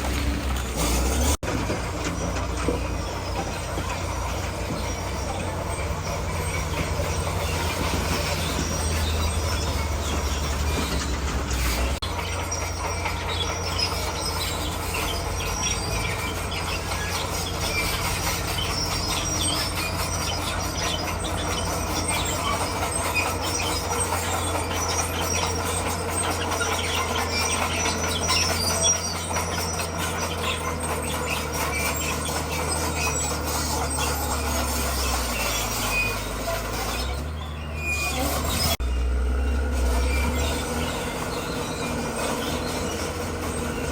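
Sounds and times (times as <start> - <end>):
diesel engine running: 0.0 - 43.9
steel tracks clanking and squealing: 0.0 - 43.9.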